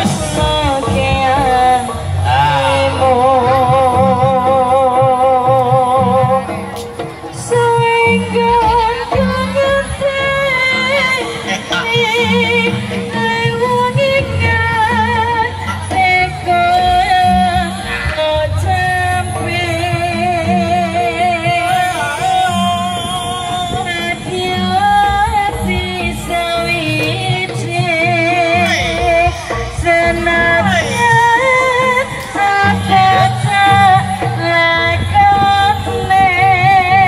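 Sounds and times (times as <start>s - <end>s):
gamelan music: 0.0s - 37.0s
person singing long notes: 0.0s - 37.0s
steady drumming: 0.0s - 37.0s.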